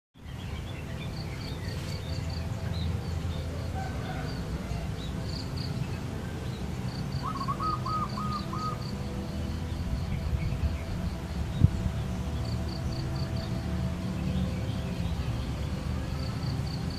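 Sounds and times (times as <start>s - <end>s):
birds chirping: 0.2s - 16.9s
steady low rumble: 0.2s - 16.9s.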